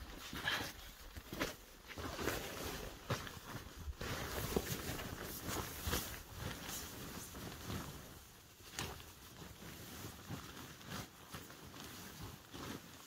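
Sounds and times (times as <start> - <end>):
sleeping bag fabric rustling: 0.0 - 13.0.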